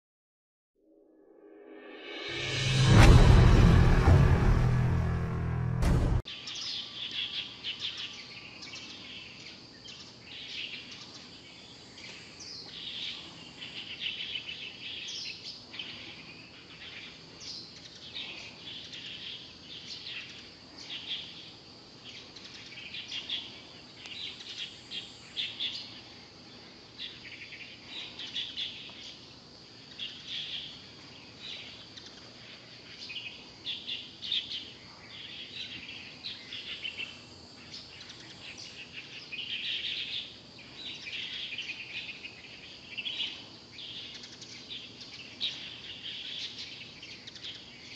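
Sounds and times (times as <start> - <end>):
faint outdoor hiss: 6.3 - 47.9
small birds chirping: 6.3 - 47.9.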